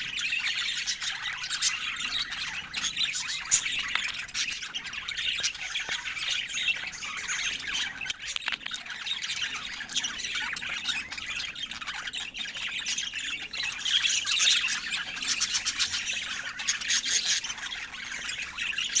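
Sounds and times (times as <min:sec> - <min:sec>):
budgerigars chattering: 0:00.0 - 0:19.0.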